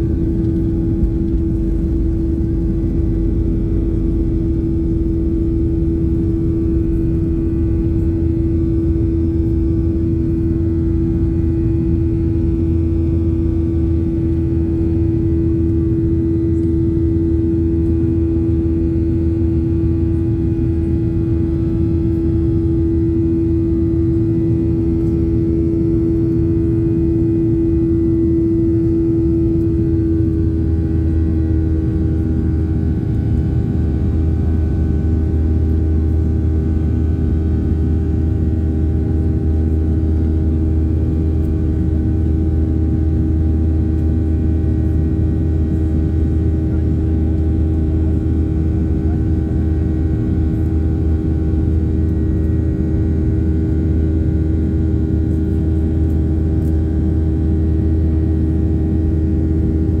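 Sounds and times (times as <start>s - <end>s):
jet engines droning in cabin: 0.0s - 60.0s
steady hum-like tone: 0.0s - 60.0s.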